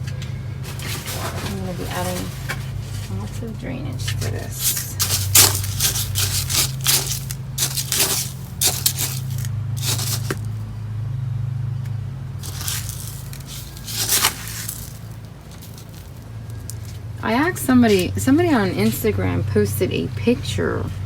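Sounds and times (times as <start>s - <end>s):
potting mix scraping and crunching: 0.1s - 10.7s, 12.3s - 21.0s.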